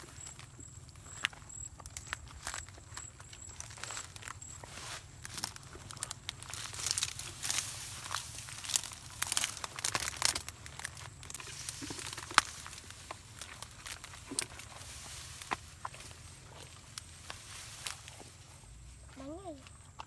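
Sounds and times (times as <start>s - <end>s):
dry leaves rustling and crackling: 0.0s - 19.6s.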